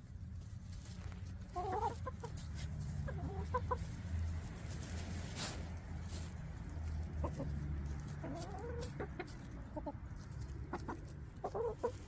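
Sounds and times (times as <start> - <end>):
hens clucking: 1.0 - 12.0.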